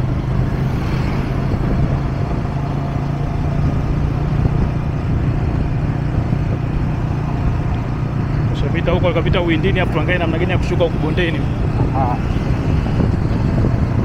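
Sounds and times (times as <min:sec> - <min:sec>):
motorcycle engine humming: 0:00.0 - 0:14.0
road noise: 0:00.0 - 0:14.0.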